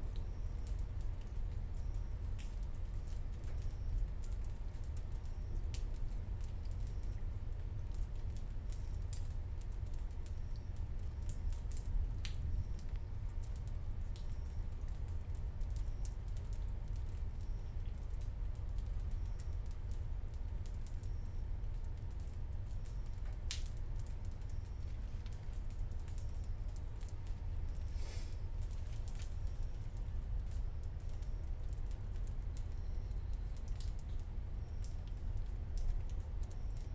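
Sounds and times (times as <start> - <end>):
raindrops dripping: 0.0 - 36.9.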